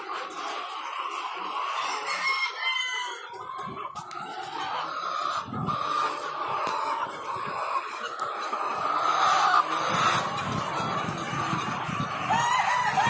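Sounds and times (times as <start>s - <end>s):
hens clucking and calling: 0.0s - 13.0s
drawn-out hen call: 1.7s - 13.0s.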